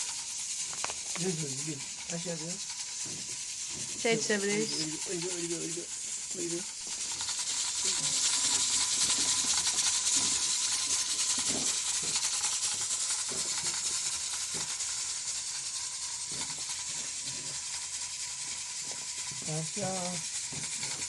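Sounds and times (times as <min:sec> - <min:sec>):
high-pitched hiss: 0:00.0 - 0:21.0
thin steady tone: 0:00.0 - 0:21.0.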